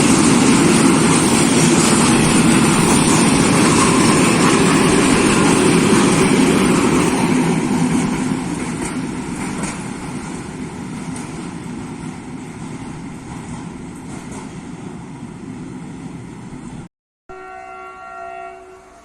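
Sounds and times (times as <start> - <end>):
diesel train engine rumble: 0.0 - 16.8
train wheel and rail noise: 0.0 - 19.0.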